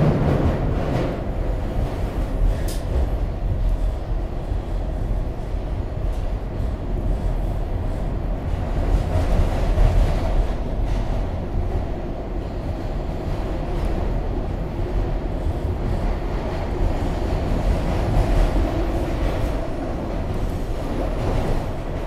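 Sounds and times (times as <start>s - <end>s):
subway car wheels rumbling: 0.0s - 22.0s.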